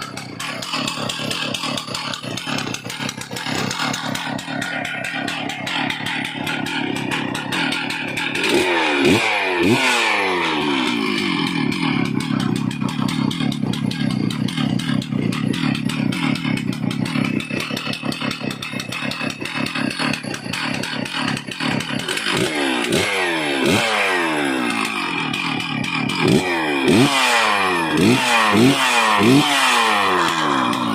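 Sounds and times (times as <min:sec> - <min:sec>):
chainsaw engine revving: 0:00.0 - 0:30.9.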